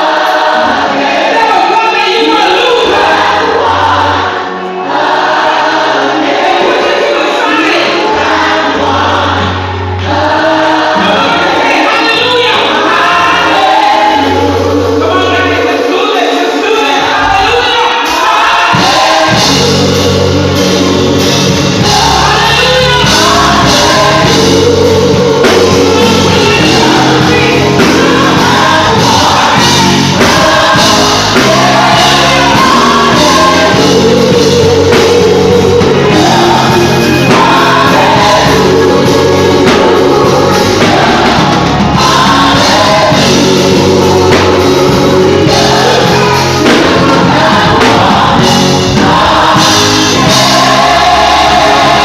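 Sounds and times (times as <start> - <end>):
gospel singers with band: 0.0 - 52.0.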